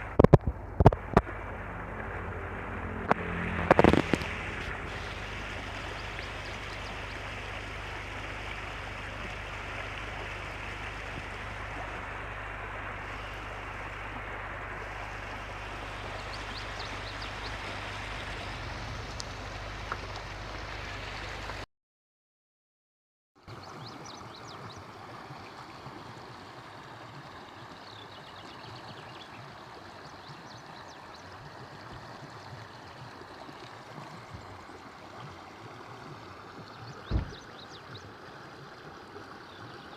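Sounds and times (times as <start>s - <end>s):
stream rushing: 0.0s - 21.6s, 23.5s - 39.9s.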